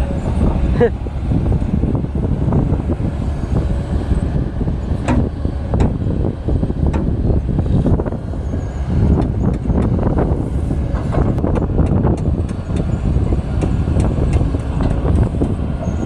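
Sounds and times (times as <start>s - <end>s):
diesel engine rumble: 0.0s - 16.0s.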